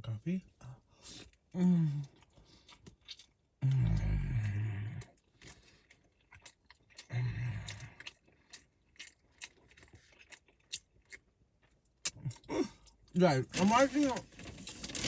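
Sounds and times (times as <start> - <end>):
person chewing food: 1.0 - 13.1.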